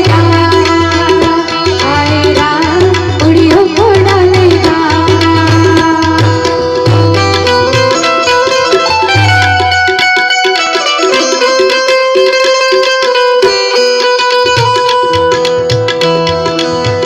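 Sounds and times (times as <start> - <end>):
harmonium: 0.0 - 17.0
tabla playing rhythm: 0.0 - 17.0.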